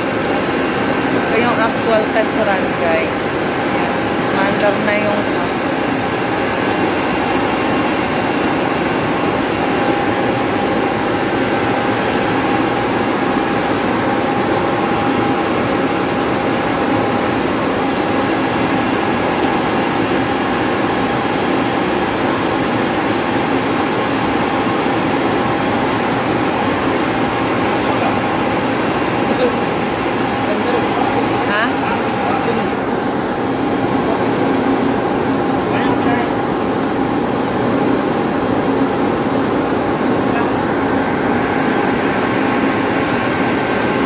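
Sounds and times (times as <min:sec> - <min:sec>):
electric pump running with whine: 0:00.0 - 0:44.0.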